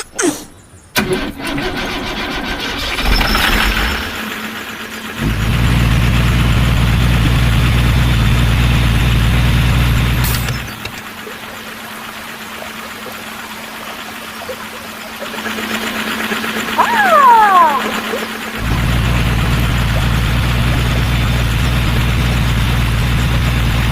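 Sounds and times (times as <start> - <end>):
vehicle engine idling: 1.0 - 23.9.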